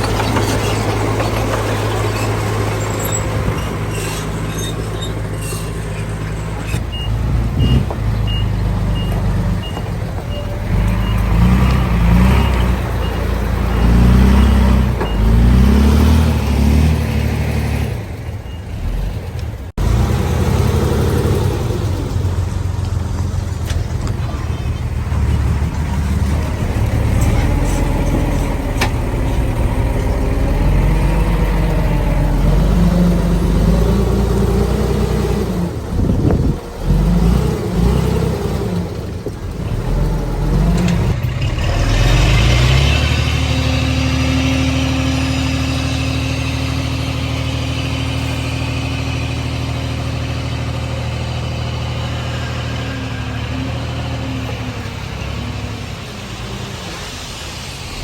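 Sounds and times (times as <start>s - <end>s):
diesel engine working: 0.0s - 58.0s.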